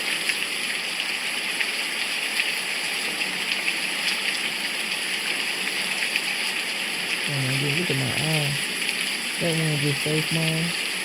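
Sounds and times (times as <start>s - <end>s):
steady rain with drop ticks: 0.0s - 11.0s.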